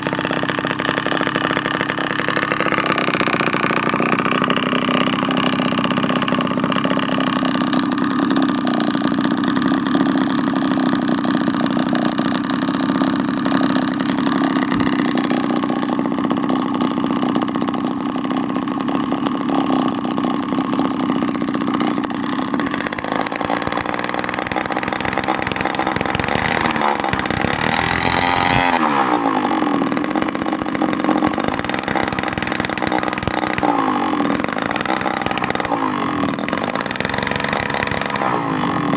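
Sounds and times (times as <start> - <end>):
small two-stroke engine revving: 0.0 - 38.9.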